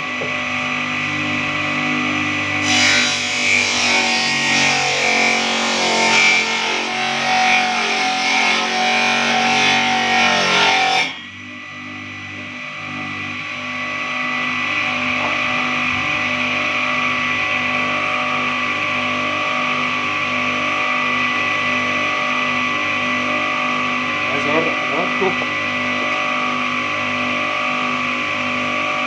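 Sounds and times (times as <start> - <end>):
table saw motor whining: 0.0 - 29.0.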